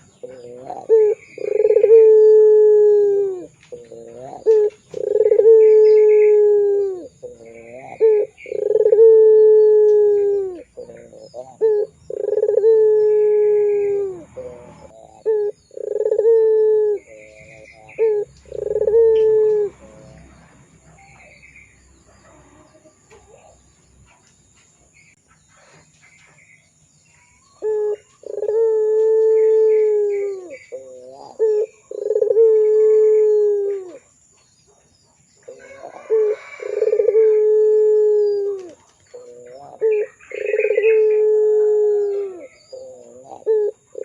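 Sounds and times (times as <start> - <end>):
dove cooing: 0.0 - 21.4, 27.6 - 34.2, 35.4 - 44.0.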